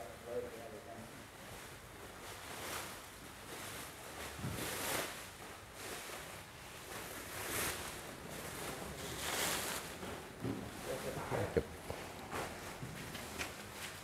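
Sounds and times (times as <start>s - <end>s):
plastic bags rustling: 1.6s - 14.0s.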